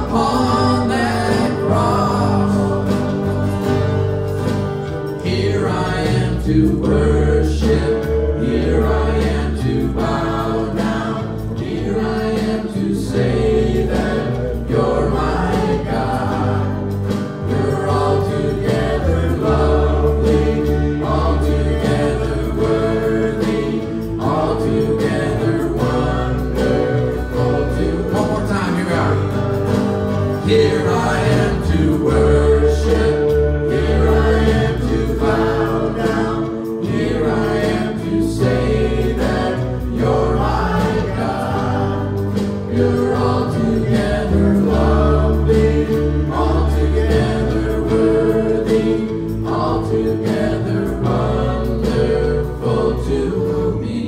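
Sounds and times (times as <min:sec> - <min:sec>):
acoustic guitar: 0:00.0 - 0:54.0
electric guitar: 0:00.0 - 0:54.0
keyboard: 0:00.0 - 0:54.0
men and women singing together: 0:00.0 - 0:54.0.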